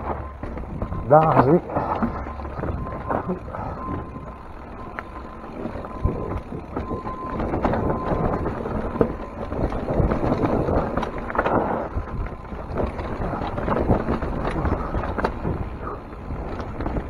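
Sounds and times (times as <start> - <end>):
bike knocking and rattling: 0.0 - 17.0
wind rushing over microphone: 0.0 - 17.0.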